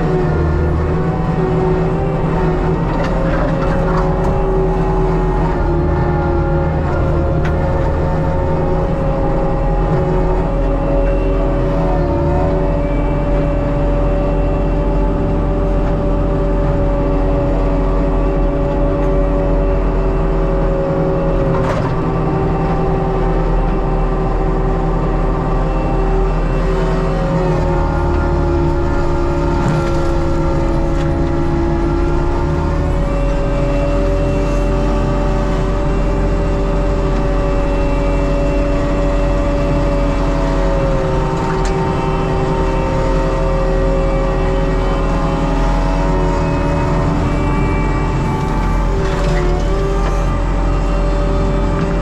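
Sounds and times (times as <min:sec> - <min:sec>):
diesel and hydraulic drone: 0:00.0 - 0:52.0.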